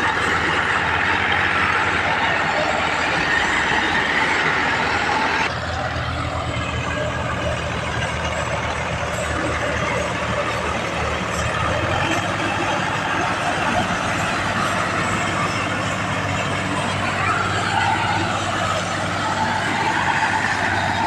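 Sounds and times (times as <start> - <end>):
tractor engine rumbling: 0.0 - 21.0.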